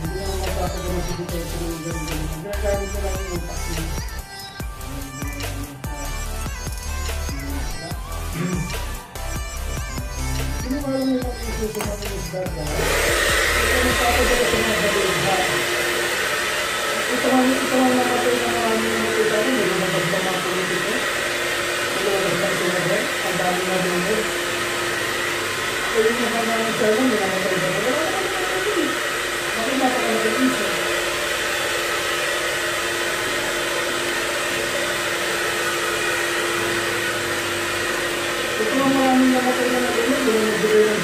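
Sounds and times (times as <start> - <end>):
hair dryer running: 0.0 - 41.0.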